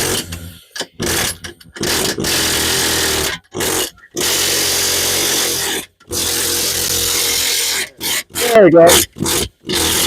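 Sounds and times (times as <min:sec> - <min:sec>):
power tool bursts: 0:00.0 - 0:10.0.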